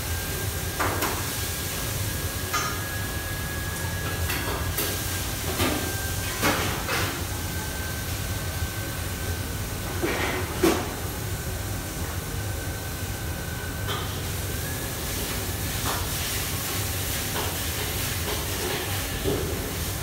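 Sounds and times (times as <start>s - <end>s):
extraction hood and fans humming: 0.0s - 20.0s.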